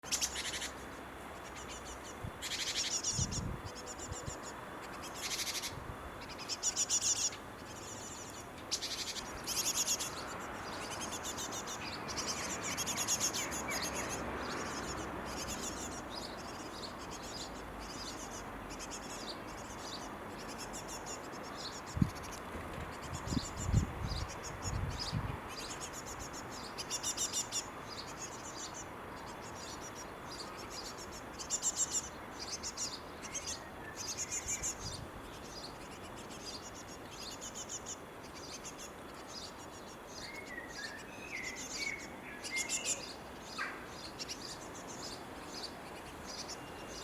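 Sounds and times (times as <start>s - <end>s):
fledglings chirping: 0.0s - 47.0s.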